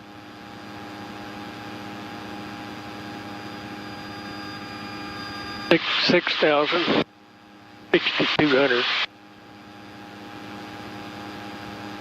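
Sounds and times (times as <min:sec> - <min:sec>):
aircraft engine droning in cabin: 0:00.0 - 0:12.0.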